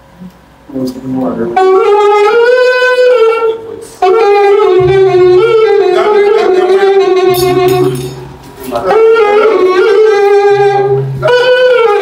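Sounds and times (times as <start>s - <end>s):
horn long held notes: 1.6s - 12.0s.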